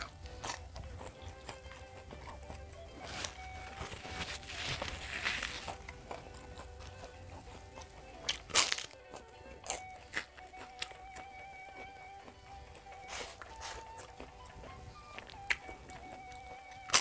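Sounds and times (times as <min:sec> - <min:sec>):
person chewing: 0:00.0 - 0:17.0
soft music with plucked guitar: 0:00.0 - 0:17.0.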